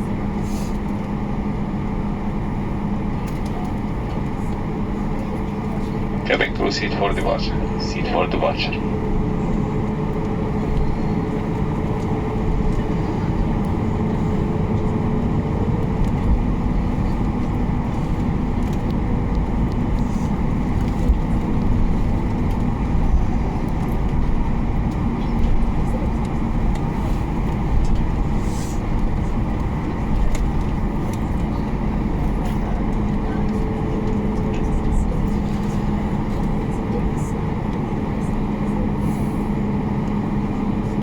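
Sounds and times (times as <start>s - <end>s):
aircraft cabin engine rumble: 0.0s - 41.0s.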